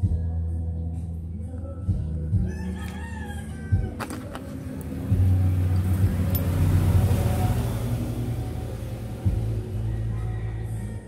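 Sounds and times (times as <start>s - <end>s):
vehicle engine rumbling: 0.8s - 11.0s.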